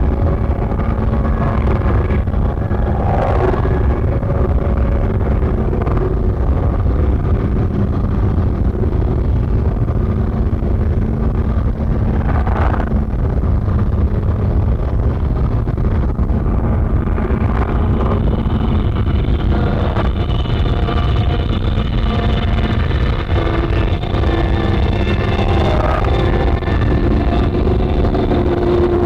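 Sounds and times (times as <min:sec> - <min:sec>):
distorted noise music rumble: 0:00.0 - 0:29.0
faint steady hum: 0:00.0 - 0:29.0.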